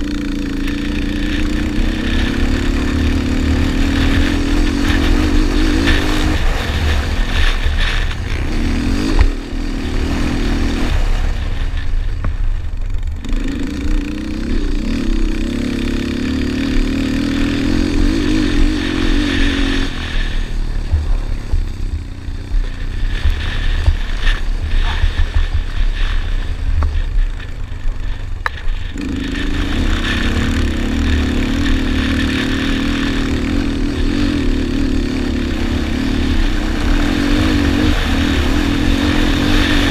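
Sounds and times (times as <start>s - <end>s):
quad engine revving hard: 0.0s - 11.8s, 13.2s - 26.4s, 28.4s - 39.9s
wind rumble on microphone: 0.0s - 39.9s.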